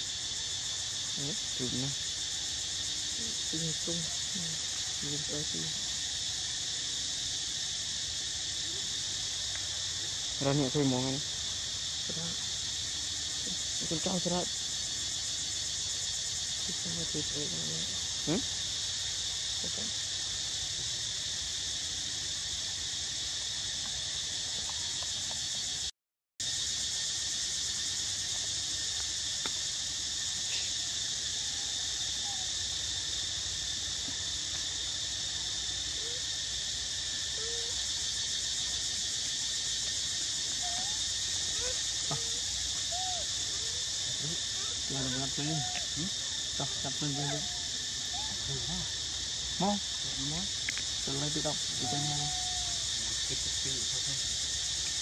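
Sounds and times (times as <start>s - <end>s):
insects buzzing chorus: 0.0s - 55.0s.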